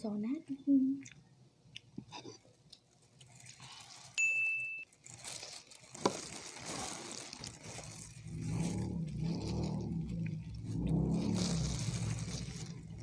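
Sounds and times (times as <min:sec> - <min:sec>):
crackly eating noises: 0:00.9 - 0:04.2, 0:04.8 - 0:13.0.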